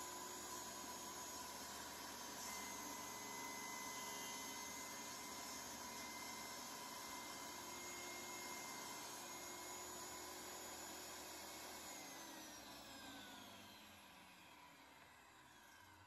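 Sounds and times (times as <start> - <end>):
table saw whining: 0.0 - 16.0.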